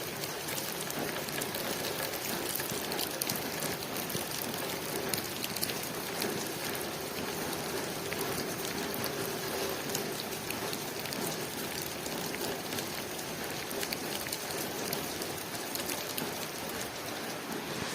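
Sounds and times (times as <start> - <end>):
rain pattering on a window: 0.0 - 17.9.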